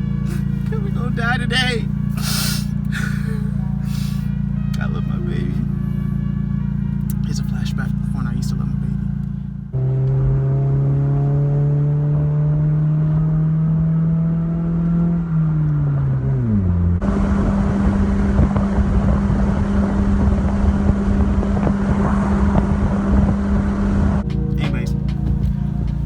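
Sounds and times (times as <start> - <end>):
car engine: 0.0 - 26.0
engine drone: 0.0 - 26.0.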